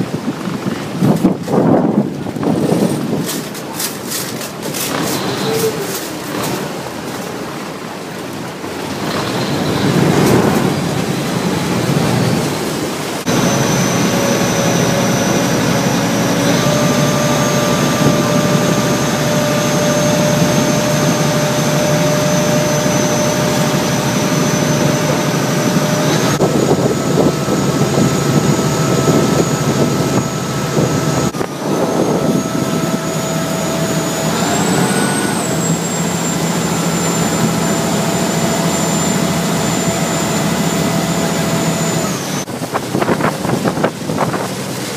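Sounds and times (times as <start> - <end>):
boat engine whine: 0.0 - 44.9
water rushing along hull: 0.0 - 44.9.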